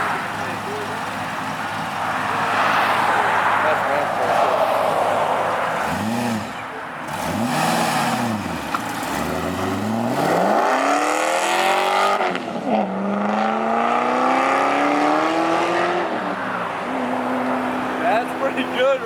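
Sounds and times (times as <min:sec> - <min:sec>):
car engine revving and accelerating: 0:02.0 - 0:19.0.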